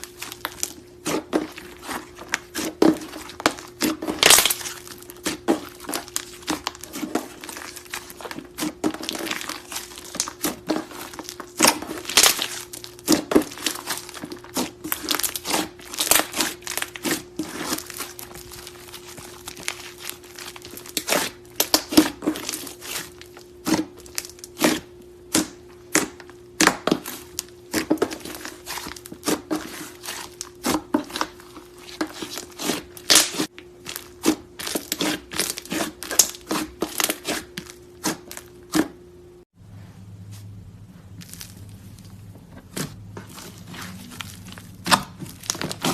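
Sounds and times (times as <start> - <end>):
hands squeezing clay slime: 0.0 - 26.2, 26.8 - 38.3.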